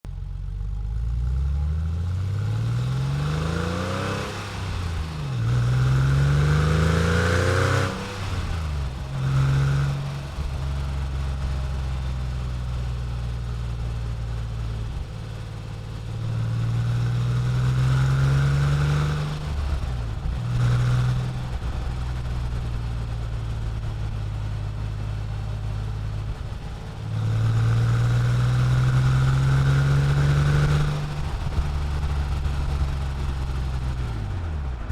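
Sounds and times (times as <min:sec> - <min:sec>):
car engine accelerating hard: 0:01.0 - 0:13.7, 0:14.7 - 0:34.9.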